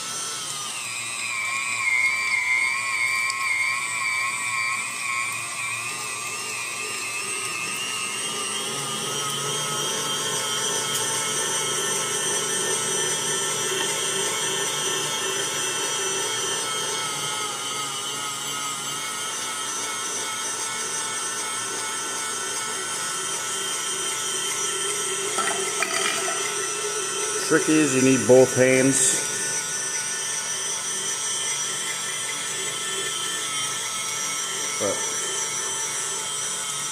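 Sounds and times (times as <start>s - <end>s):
meat grinder motor whine: 0.0s - 36.9s.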